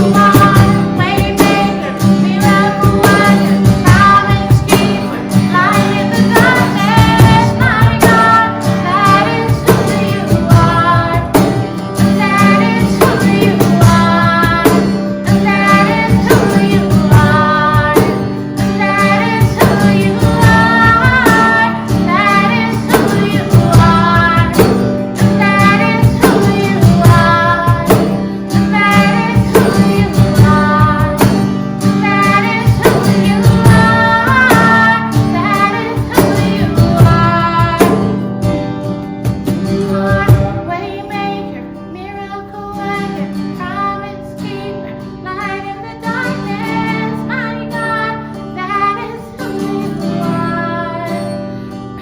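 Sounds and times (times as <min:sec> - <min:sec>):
worship band playing: 0:00.0 - 0:41.8
woman singing lead: 0:00.0 - 0:52.0.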